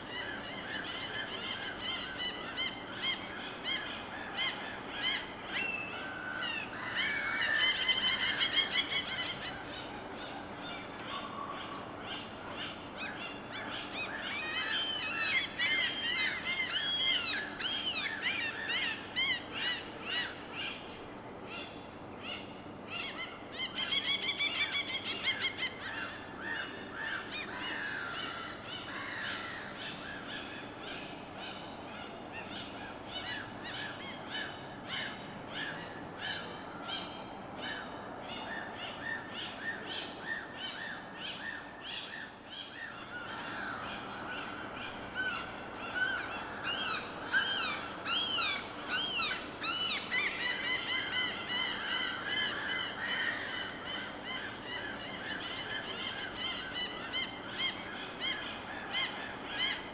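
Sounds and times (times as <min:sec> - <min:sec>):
birds calling and chirping: 0:00.0 - 0:20.8, 0:21.6 - 0:59.9.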